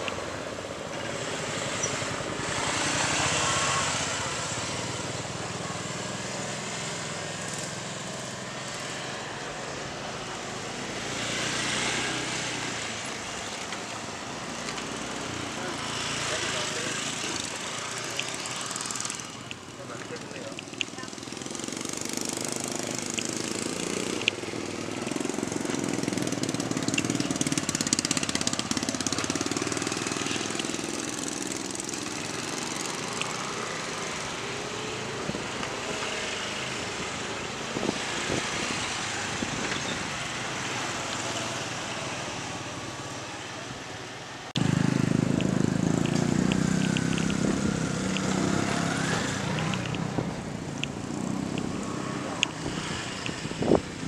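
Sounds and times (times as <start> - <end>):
motorcycles passing: 0.0 - 54.0.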